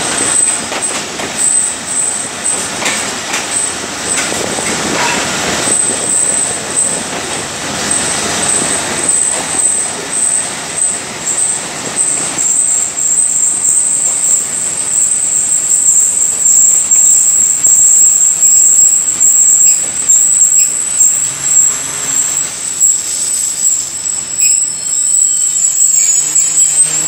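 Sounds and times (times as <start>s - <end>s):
train wheel and brake squeal: 0.0s - 27.0s
train wheels rumbling on rails: 0.0s - 27.0s.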